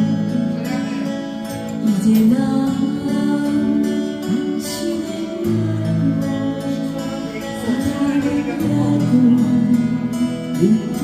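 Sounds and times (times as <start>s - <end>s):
guitar accompaniment: 0.0s - 11.0s
person singing a slow ballad: 0.0s - 11.0s.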